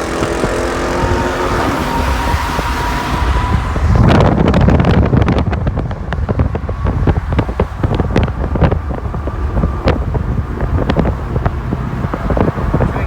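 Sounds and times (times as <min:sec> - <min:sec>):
car engine and road rumble: 0:00.0 - 0:13.0
wind buffeting microphone: 0:00.0 - 0:13.0.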